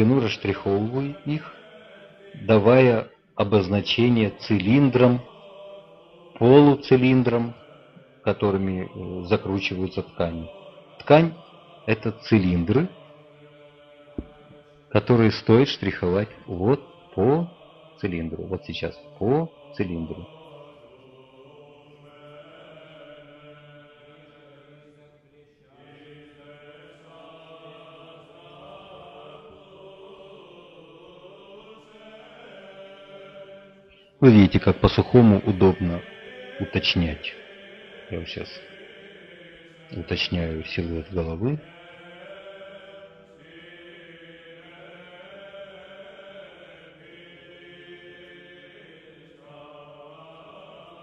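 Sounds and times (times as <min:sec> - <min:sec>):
slow sung chant: 0:00.0 - 0:51.0.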